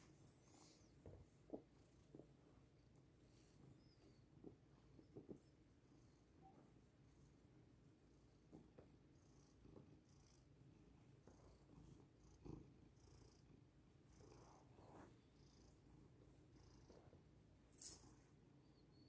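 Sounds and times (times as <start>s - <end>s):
cat purring: 0.0s - 17.6s.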